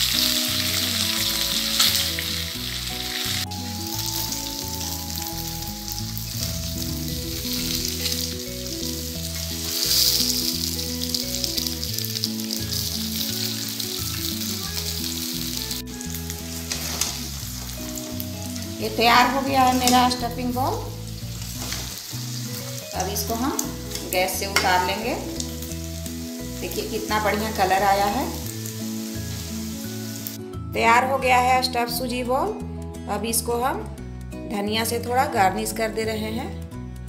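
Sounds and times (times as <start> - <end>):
oil sizzling: 0.0 - 30.6
light background music: 0.0 - 37.0.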